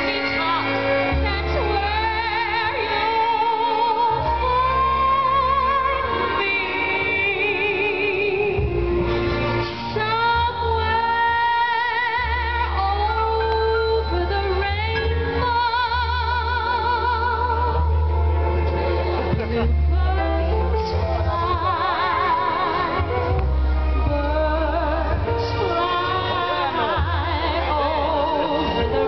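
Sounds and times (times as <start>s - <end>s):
woman singing with vibrato: 0.0s - 9.1s, 9.8s - 18.6s, 19.2s - 29.0s
live band playing: 0.0s - 29.0s.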